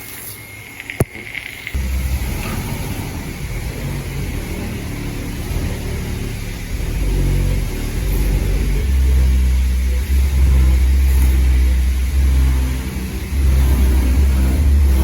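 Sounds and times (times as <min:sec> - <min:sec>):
car engine rumbling: 0:00.6 - 0:15.0.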